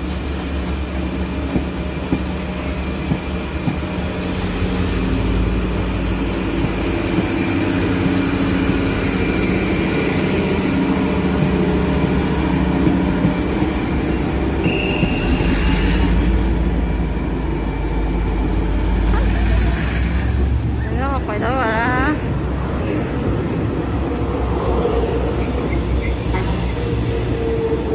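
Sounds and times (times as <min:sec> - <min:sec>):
train wheels rumbling on track: 0:00.0 - 0:27.9.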